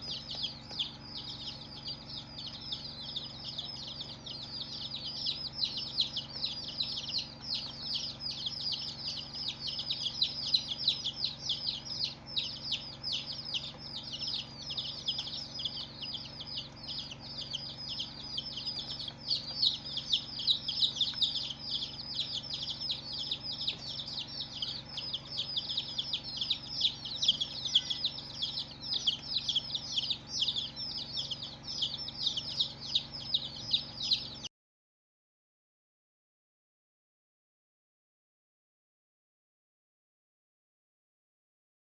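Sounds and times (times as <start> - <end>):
baby chicks peeping: 0.0 - 34.5.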